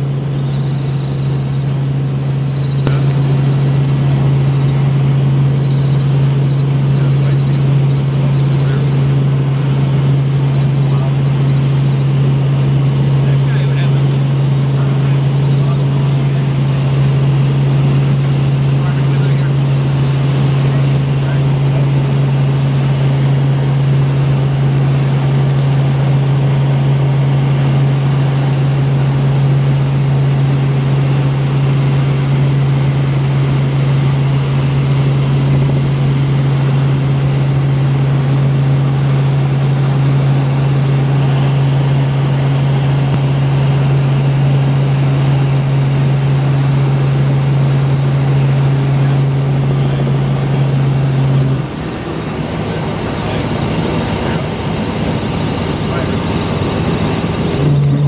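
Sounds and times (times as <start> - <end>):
helicopter rotor and engine drone: 0.0 - 58.0
low hum: 0.0 - 58.0.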